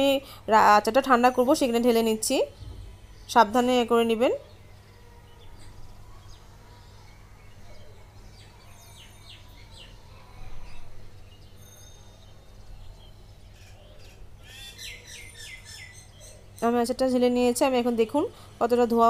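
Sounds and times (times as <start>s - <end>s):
faint birds chirping: 0.0s - 19.0s
low background hum: 0.0s - 19.0s.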